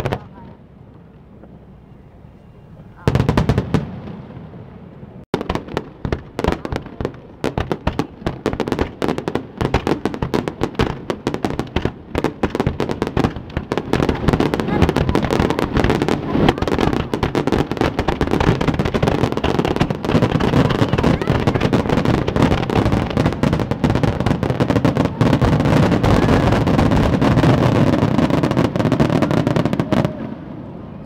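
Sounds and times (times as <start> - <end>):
fireworks bangs and crackles: 0.0 - 0.6, 2.7 - 31.0.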